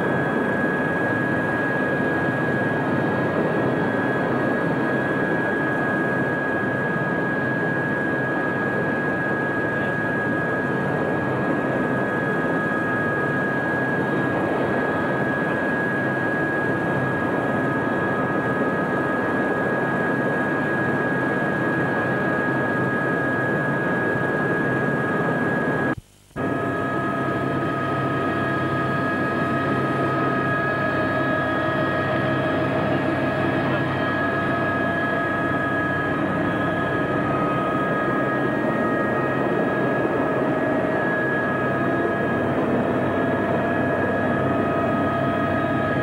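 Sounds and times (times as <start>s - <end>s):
helicopter turbine whine: 0.0s - 46.0s.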